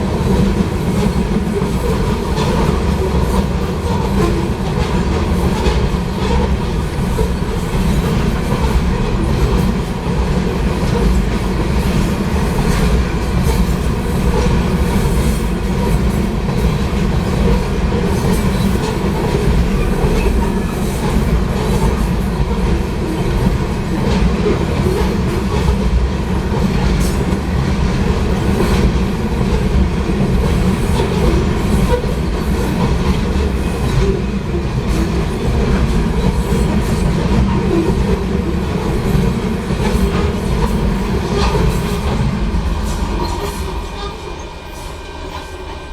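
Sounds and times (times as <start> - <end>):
freight train rumble: 0.0 - 45.9.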